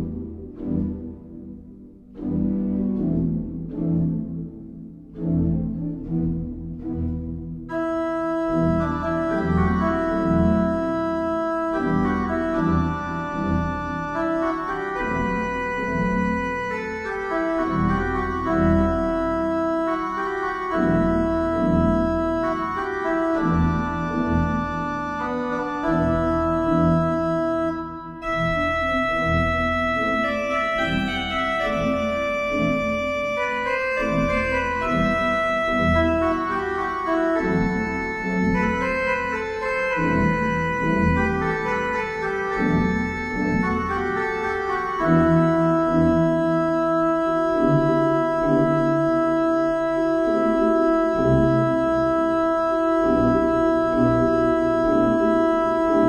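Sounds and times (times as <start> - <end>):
organ music: 0.0 - 56.0.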